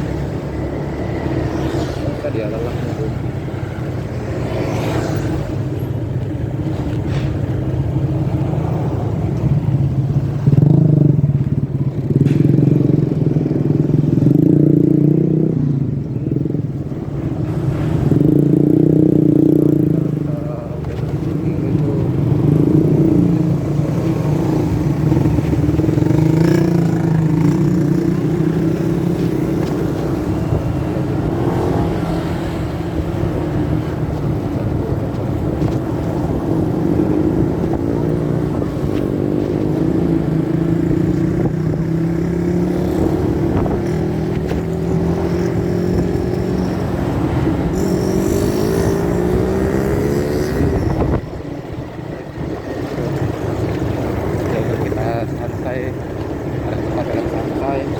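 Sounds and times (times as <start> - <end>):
motorcycle engine running: 5.6 - 57.9.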